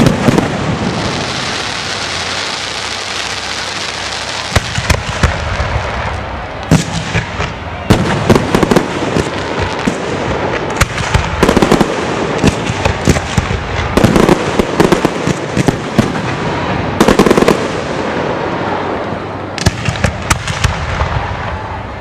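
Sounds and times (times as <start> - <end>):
continuous rumble: 0.0 - 22.0
fireworks crackling: 0.0 - 22.0
fireworks exploding with bangs: 0.0 - 22.0.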